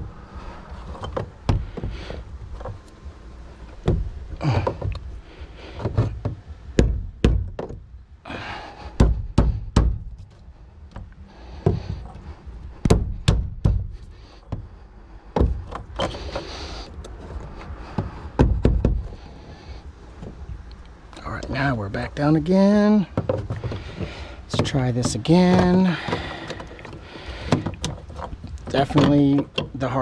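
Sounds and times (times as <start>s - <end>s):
hard parts knocking and scraping: 0.0s - 30.0s.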